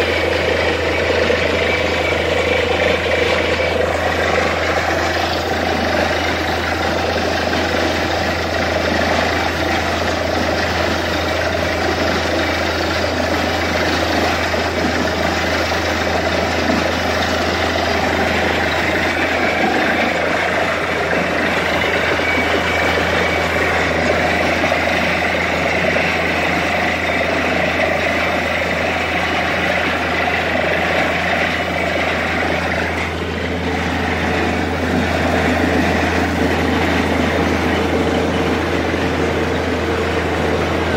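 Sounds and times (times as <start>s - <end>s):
drilling rig droning: 0.0s - 40.9s
water gushing: 0.0s - 40.9s.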